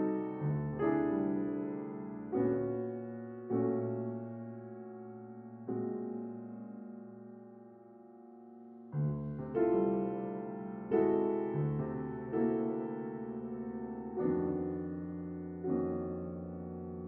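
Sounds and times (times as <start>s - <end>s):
grand piano notes and chords: 0.0s - 17.0s.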